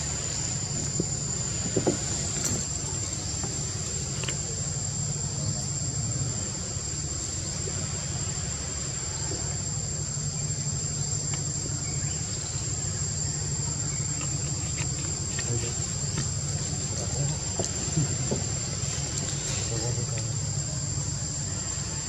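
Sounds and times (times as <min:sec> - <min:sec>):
insects droning: 0:00.0 - 0:22.0
low steady rumble: 0:00.0 - 0:22.0.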